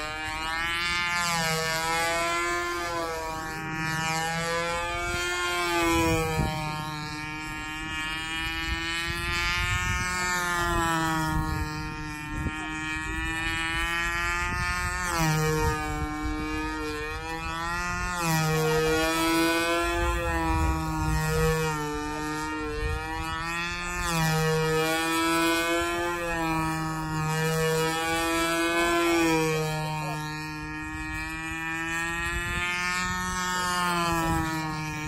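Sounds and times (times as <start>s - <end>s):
model airplane engine droning: 0.0s - 35.0s.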